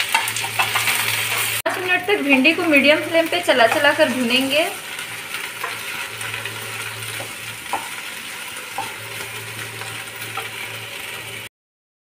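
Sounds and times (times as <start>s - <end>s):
okra sizzling in oil: 0.0s - 11.5s.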